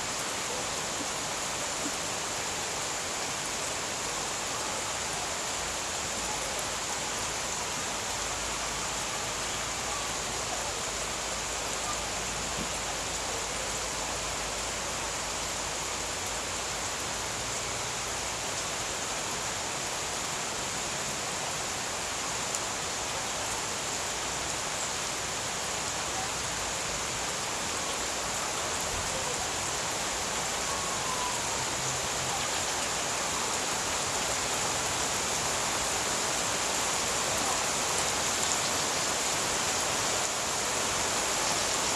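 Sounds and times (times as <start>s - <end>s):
rain falling on plants: 0.0s - 41.9s.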